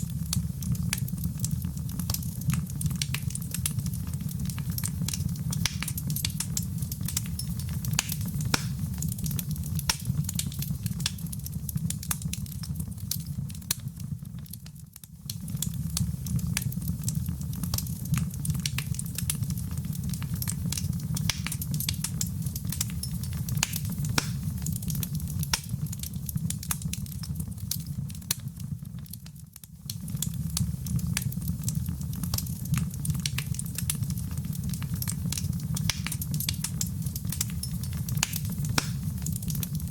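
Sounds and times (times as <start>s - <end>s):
fire crackling with sharp pops: 0.0s - 39.9s
low rumble of flames: 0.0s - 39.9s.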